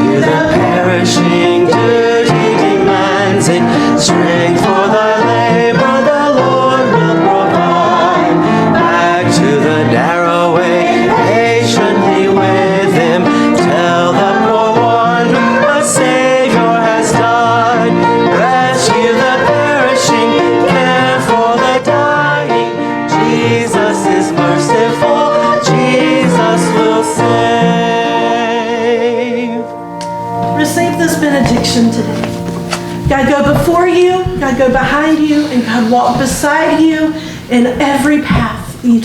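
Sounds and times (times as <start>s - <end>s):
hymn with instruments and singing: 0.0s - 39.0s.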